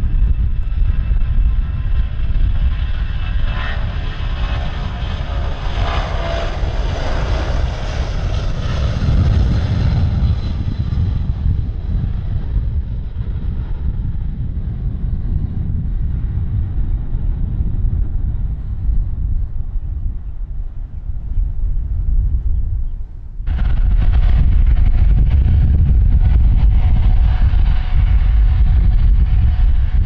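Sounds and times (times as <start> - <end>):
airliner engines passing: 0.0 - 30.0.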